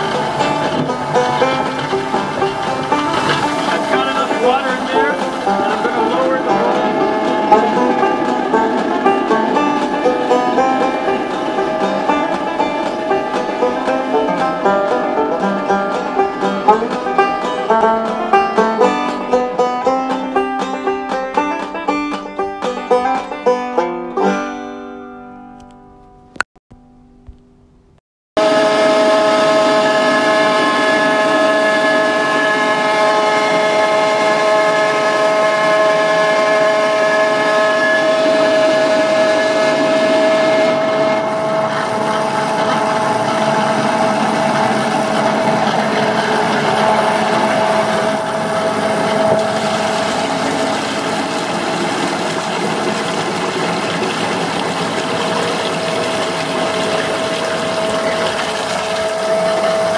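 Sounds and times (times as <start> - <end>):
machine motor humming: 0.0 - 18.2, 28.4 - 59.9
pulp churning slushy noise: 0.0 - 21.8, 28.4 - 59.9.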